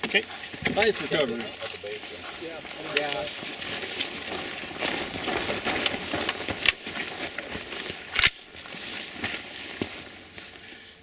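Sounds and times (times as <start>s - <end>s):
rustling and handling noise: 0.0s - 11.0s.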